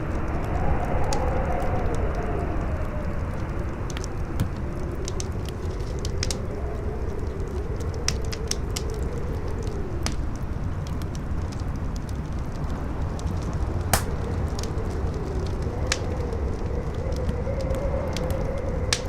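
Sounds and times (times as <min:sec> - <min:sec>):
campfire crackling and popping: 0:00.0 - 0:19.0
faint wind howl: 0:00.0 - 0:19.0
low wind rumble: 0:00.0 - 0:19.0.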